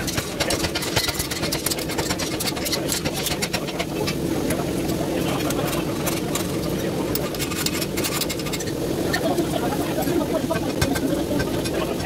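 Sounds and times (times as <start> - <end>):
forge humming: 0.0 - 12.0.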